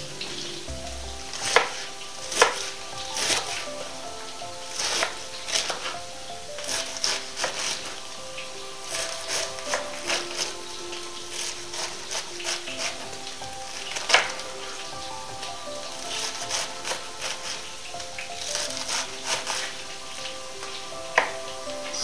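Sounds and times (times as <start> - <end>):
background music: 0.0 - 22.0
pans sizzling faintly: 0.0 - 22.0.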